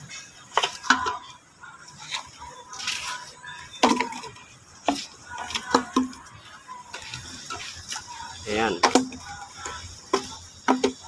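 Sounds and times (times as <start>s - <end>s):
plastic bottles clattering: 0.4s - 6.3s, 6.9s - 11.0s.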